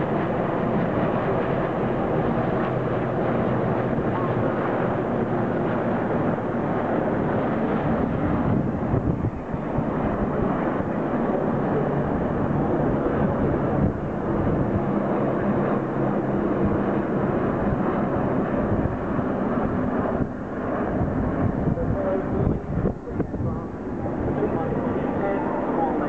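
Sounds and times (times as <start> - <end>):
helicopters flying overhead: 0.0 - 26.0.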